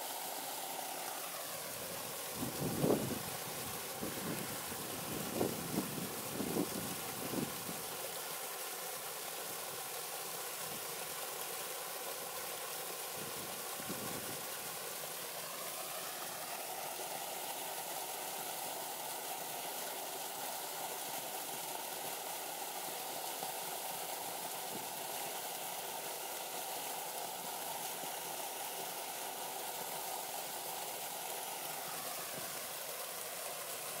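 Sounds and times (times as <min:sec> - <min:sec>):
waterfall splashing: 0:00.0 - 0:34.0.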